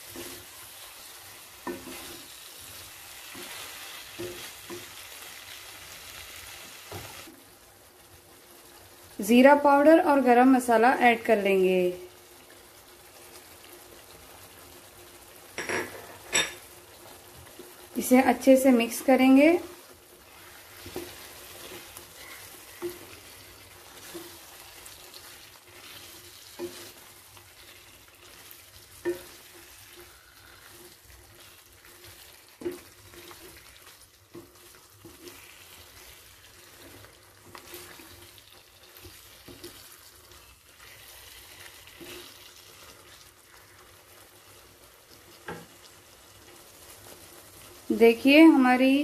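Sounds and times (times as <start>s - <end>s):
gravy sizzling faintly: 0.0s - 49.0s.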